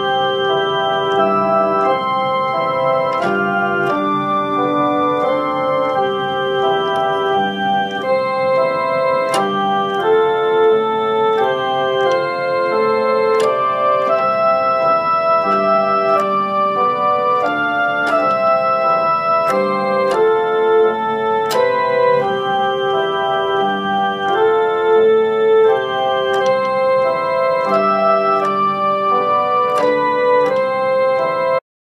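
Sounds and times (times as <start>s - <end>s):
slow keyboard music: 0.0s - 31.6s.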